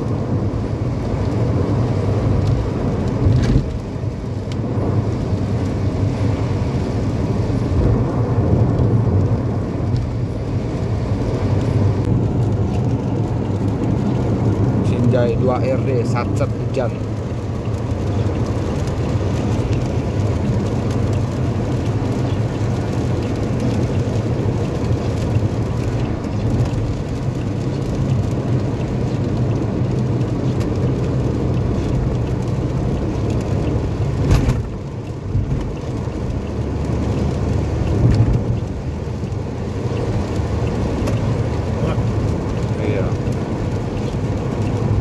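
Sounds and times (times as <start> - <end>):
rain on car: 0.0 - 45.0
tyre and road rumble: 0.0 - 45.0.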